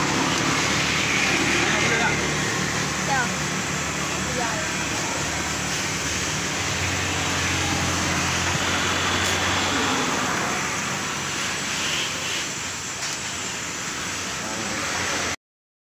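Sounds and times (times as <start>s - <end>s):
motor running: 0.0s - 15.3s.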